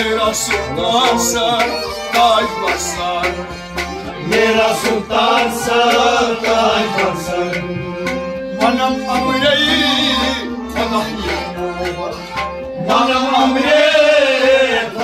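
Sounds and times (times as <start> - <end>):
person singing: 0.0 - 15.0
held drone: 0.4 - 15.0.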